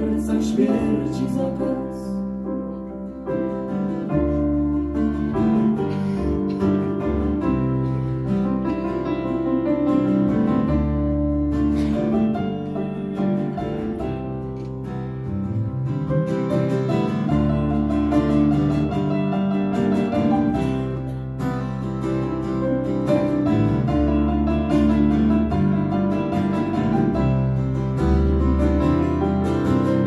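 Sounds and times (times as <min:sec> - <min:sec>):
keyboard low notes: 0:00.0 - 0:30.0
strummed acoustic guitars: 0:00.0 - 0:30.0.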